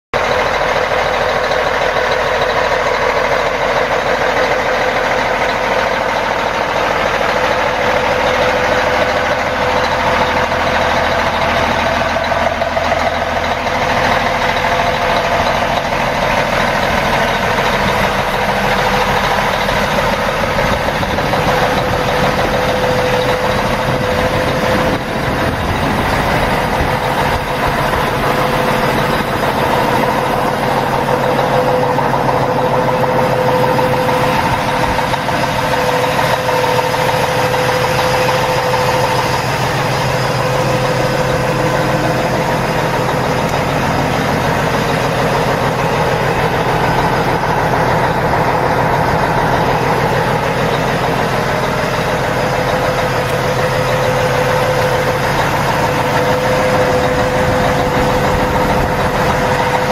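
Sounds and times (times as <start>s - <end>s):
diesel truck engine idling: 0.1s - 59.9s.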